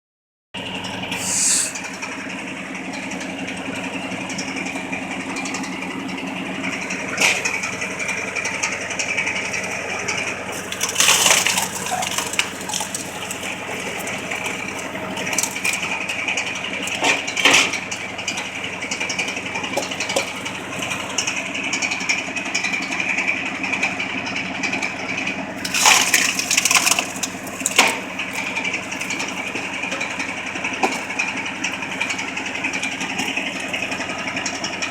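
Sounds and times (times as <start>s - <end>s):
tractor engine running: 0.6s - 34.9s.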